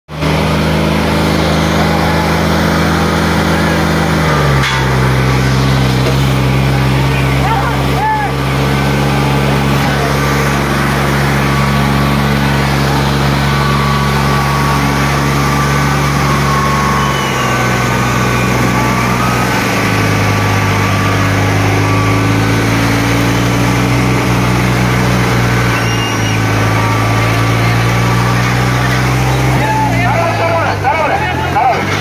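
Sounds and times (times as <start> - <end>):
diesel tractor engines under load: 0.1 - 32.0.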